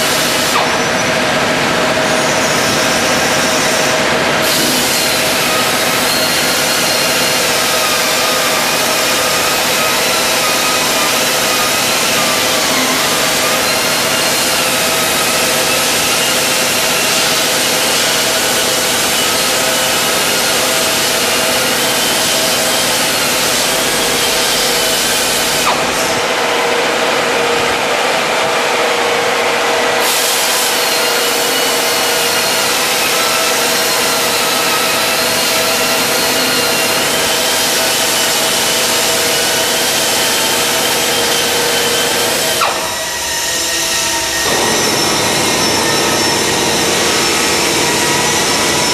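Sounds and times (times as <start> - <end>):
pneumatic polisher running: 0.0 - 48.9.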